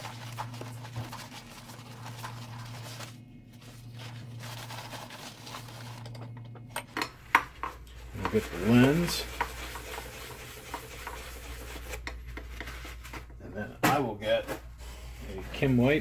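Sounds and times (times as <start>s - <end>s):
paper towel rubbing plastic: 0.0s - 6.1s, 7.9s - 16.0s
steady low hum: 0.0s - 16.0s.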